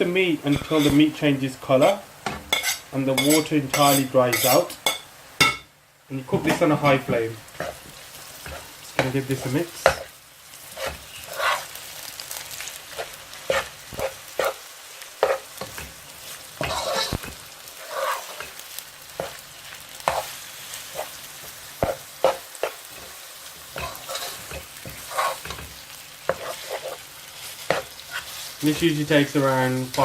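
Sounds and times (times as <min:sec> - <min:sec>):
meat sizzling in a pan: 0:00.0 - 0:30.0
spoon scraping and knocking pan: 0:00.5 - 0:01.1, 0:01.8 - 0:05.7, 0:06.3 - 0:10.1, 0:10.7 - 0:11.8, 0:12.6 - 0:28.9.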